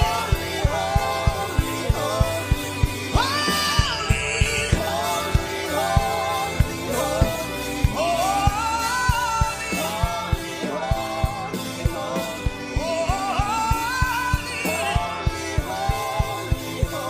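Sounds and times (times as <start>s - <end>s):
band with steady drum beat: 0.0s - 17.0s
person singing: 0.0s - 17.0s.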